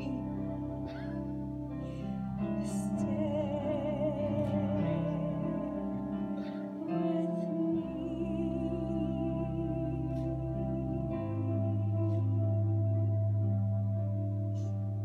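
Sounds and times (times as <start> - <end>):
person singing with vibrato: 0.0 - 14.8.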